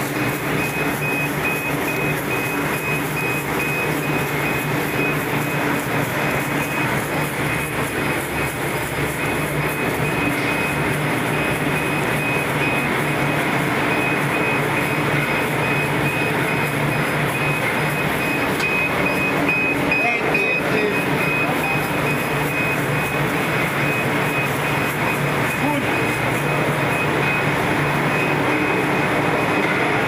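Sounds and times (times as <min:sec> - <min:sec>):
high beeps: 0:00.1 - 0:30.0.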